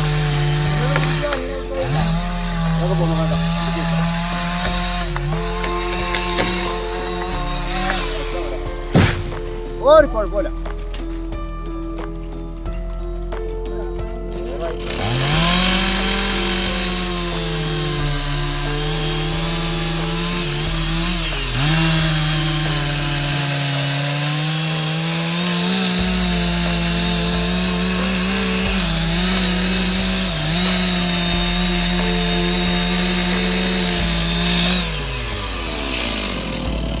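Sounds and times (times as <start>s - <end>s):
chainsaw cutting wood: 0.0s - 11.4s, 13.9s - 37.0s.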